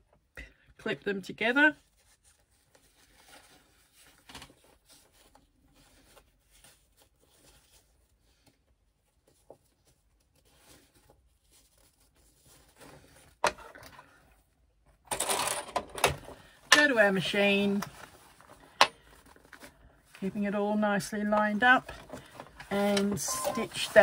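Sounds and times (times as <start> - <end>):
fabric rustling: 1.6 - 15.0, 16.2 - 24.0.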